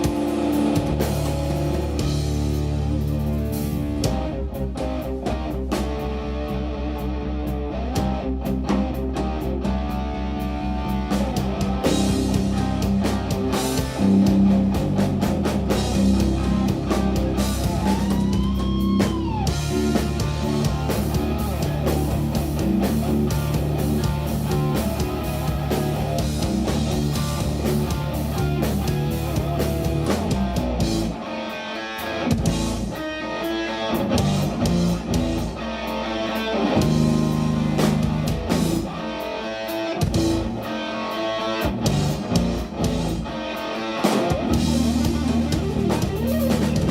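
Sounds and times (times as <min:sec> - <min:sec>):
electric guitar note bending: 0:00.0 - 0:46.9
jazz-rock fusion trio playing: 0:00.0 - 0:46.9.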